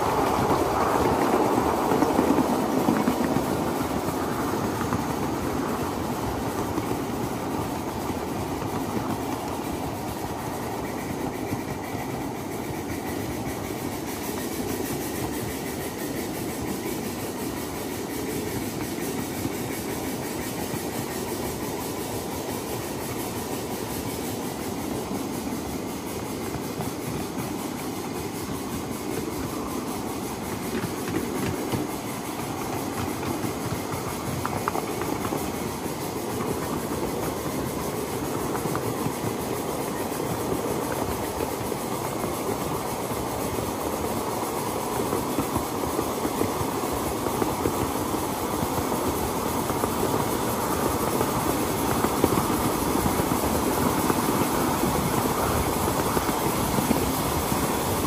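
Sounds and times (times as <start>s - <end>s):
steam hiss: 0.0s - 58.0s
train wheels clattering on rails: 0.0s - 58.0s.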